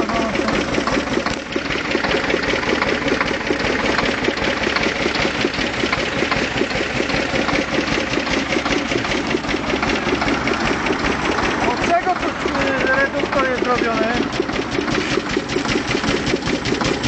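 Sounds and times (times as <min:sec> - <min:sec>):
small tractor engine running: 0:00.0 - 0:17.0.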